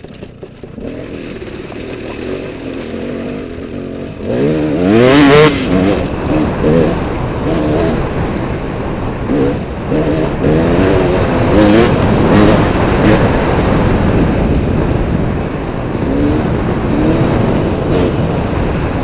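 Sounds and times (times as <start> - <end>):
dirt bike engine revving: 0.6 - 19.0.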